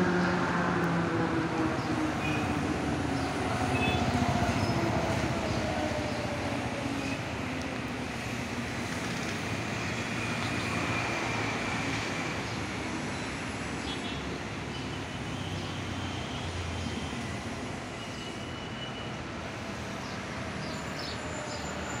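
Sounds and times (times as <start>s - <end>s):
traffic passing: 0.0s - 22.0s.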